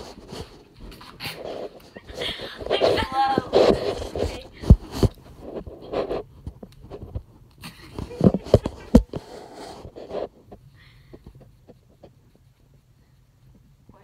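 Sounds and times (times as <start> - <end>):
phone rubbing and scraping: 0.0 - 7.2, 7.9 - 12.8.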